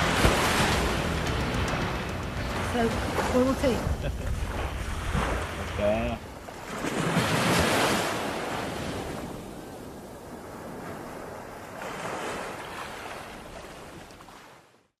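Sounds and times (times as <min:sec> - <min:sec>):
sea waves breaking on beach: 0:00.0 - 0:14.9.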